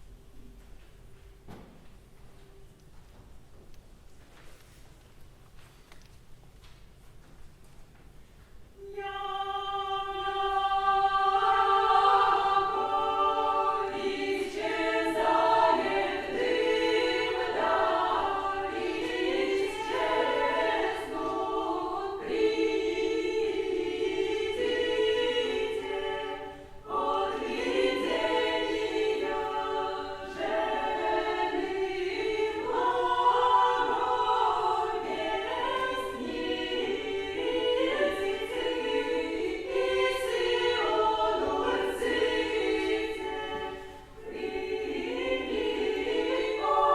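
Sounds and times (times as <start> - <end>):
choir singing unaccompanied: 8.8 - 46.9.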